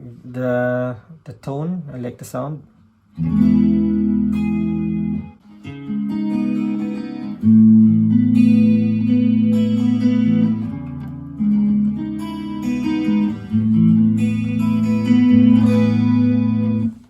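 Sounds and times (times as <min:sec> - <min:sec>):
electric guitar strummed chords: 0:03.2 - 0:17.0.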